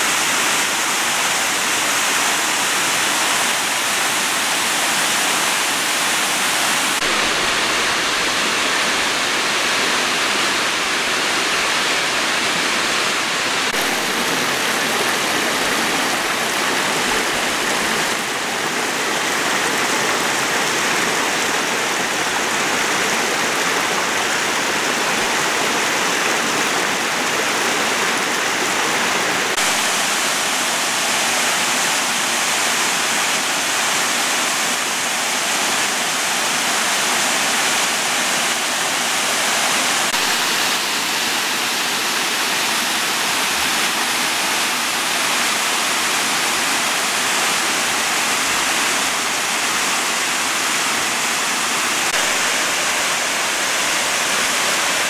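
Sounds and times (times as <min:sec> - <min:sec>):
water rushing over rocks: 0:00.0 - 0:55.0.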